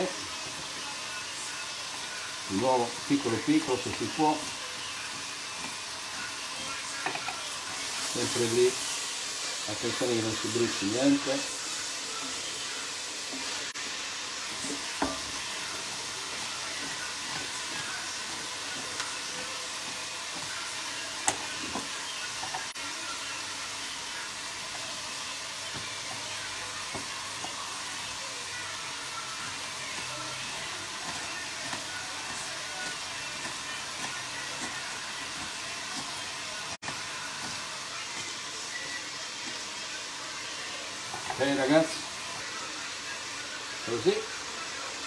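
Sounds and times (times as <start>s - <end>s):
vegetables sauteing in oil: 0.0s - 45.0s.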